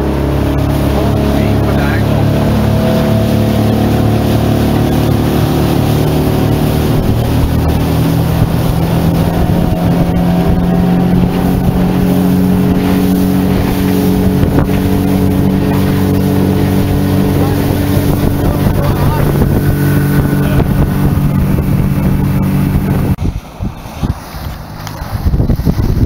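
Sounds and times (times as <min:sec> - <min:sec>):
outboard motor running at high revs: 0:00.0 - 0:26.0
water rushing past hull: 0:00.0 - 0:26.0.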